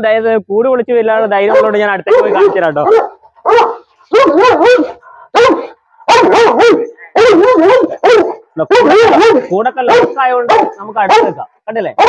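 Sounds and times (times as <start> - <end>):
dog barking aggressively: 1.5 - 11.4.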